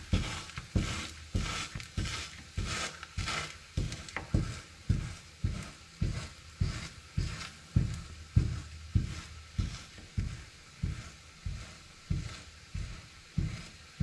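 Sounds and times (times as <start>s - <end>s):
flatbread sizzling in pan: 0.0s - 14.0s.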